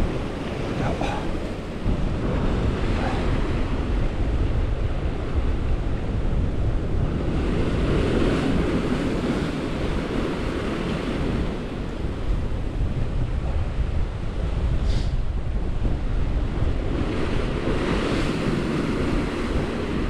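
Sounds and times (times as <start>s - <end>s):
waves breaking against rocks: 0.0s - 13.9s, 15.8s - 20.0s
wind buffeting microphone: 0.0s - 20.0s.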